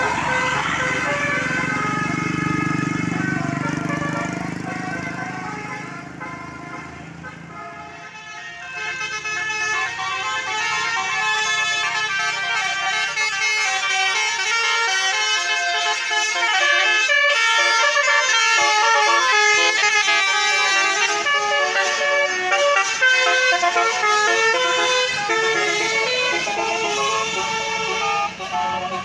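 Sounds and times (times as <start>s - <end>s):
bus musical horns playing tunes: 0.0s - 29.0s.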